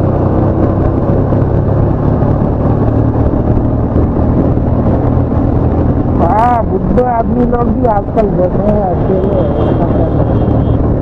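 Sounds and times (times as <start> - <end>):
motorcycle engine running: 0.0 - 11.0
road noise: 0.0 - 11.0
wind noise: 0.0 - 11.0.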